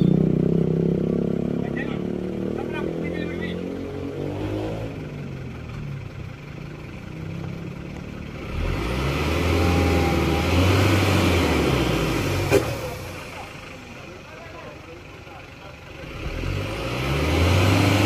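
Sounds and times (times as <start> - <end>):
truck diesel engine revving: 0.0 - 18.0.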